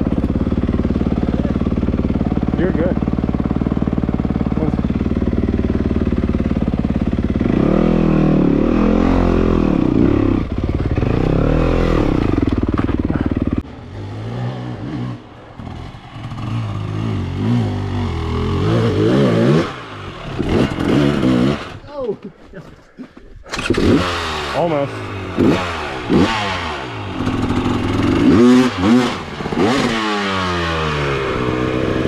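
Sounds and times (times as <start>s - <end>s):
dirt bike engine revving: 0.0s - 21.8s, 23.5s - 32.0s.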